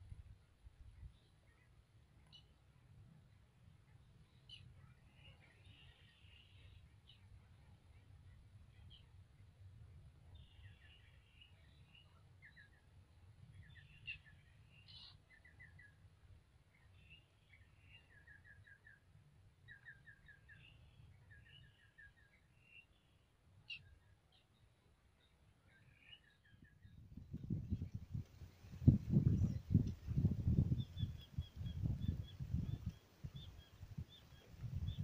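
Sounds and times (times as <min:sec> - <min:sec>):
faint bird chirps: 0:00.8 - 0:09.3, 0:10.3 - 0:16.0, 0:16.7 - 0:35.0.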